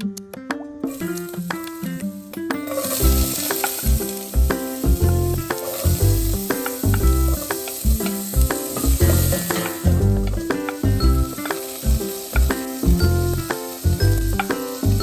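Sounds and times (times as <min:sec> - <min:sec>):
background music with a beat: 0:00.0 - 0:15.0
food sizzling in a pan: 0:00.9 - 0:15.0.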